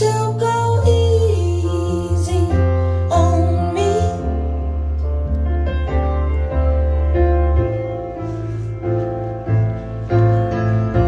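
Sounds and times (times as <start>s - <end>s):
piano music with deep bass: 0.0s - 11.0s.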